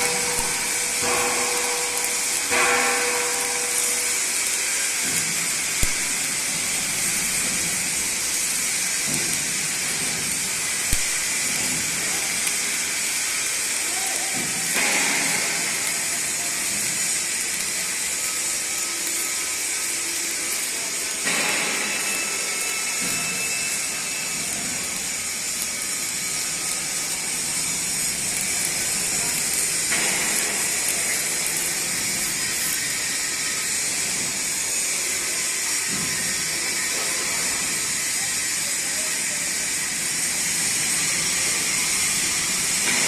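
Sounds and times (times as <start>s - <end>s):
arc welding crackling sizzle: 0.0s - 43.0s.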